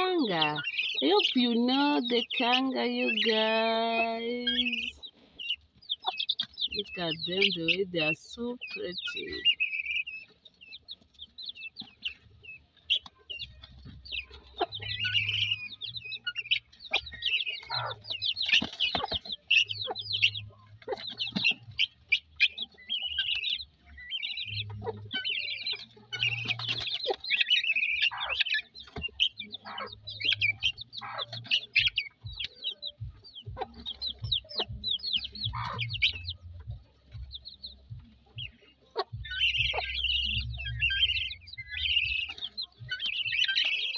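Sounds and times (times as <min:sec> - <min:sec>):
chicks cheeping and chirping: 0:00.0 - 0:43.9
hen clucking: 0:00.0 - 0:43.9.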